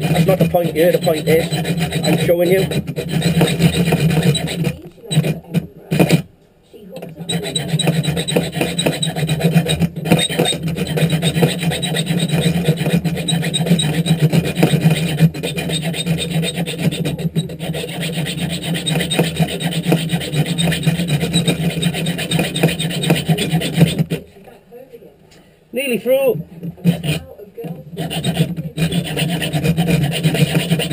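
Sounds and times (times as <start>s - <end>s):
file rasping on steel bolt: 0.0s - 6.3s, 7.0s - 24.2s, 26.6s - 27.3s, 27.9s - 30.9s.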